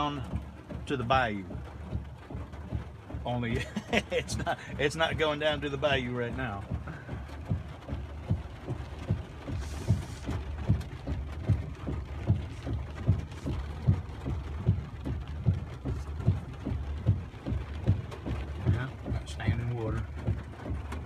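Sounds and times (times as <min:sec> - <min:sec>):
engine and road rumble: 0:00.0 - 0:21.0
windshield wipers thumping: 0:00.0 - 0:21.0.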